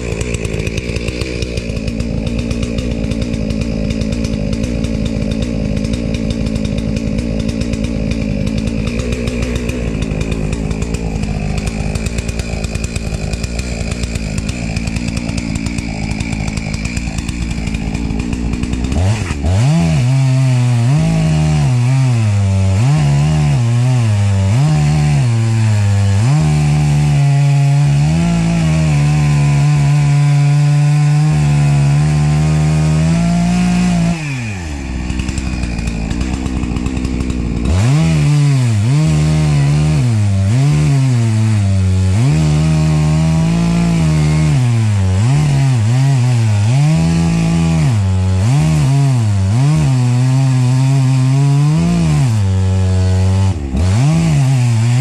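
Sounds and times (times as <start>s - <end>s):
chainsaw running under load: 0.0s - 55.0s.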